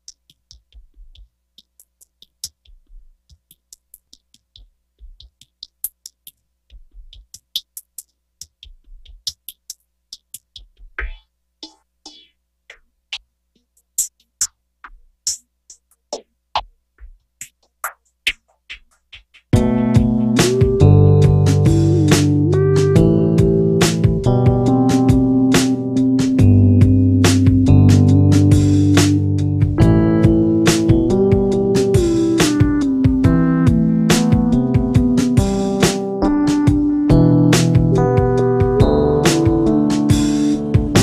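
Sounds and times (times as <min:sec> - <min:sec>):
electronic percussion clicks: 0:00.0 - 0:41.0.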